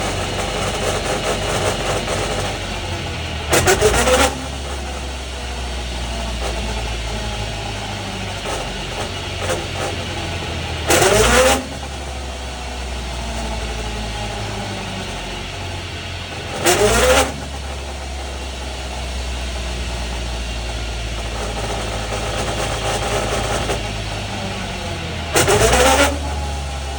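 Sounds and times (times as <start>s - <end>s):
differential gear drone: 0.0s - 26.9s
rattling with rising pitch: 0.0s - 26.9s.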